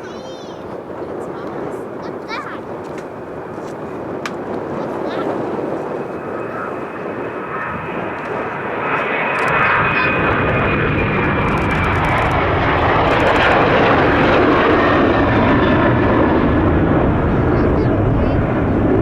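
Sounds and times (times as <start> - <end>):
jet airliner engines passing: 0.0 - 19.0.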